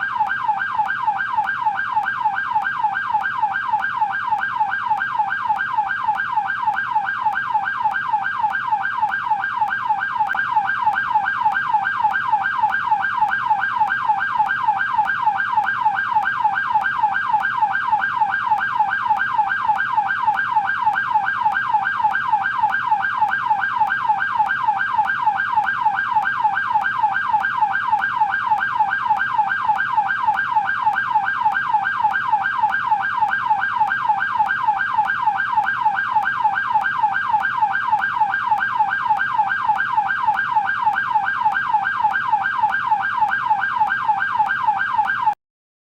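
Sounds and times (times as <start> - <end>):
police car yelp siren: 0.0 - 45.4.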